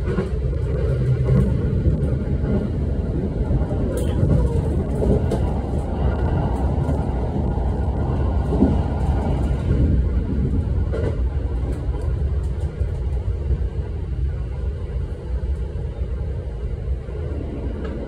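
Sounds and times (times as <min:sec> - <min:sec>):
electric train running at speed: 0:00.0 - 0:18.0.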